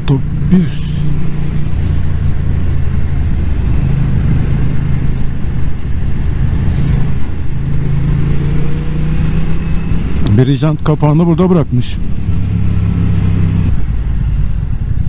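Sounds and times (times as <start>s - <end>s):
motorcycle engine running: 0.0s - 15.0s
wind rush over microphone: 1.1s - 10.3s, 12.0s - 15.0s.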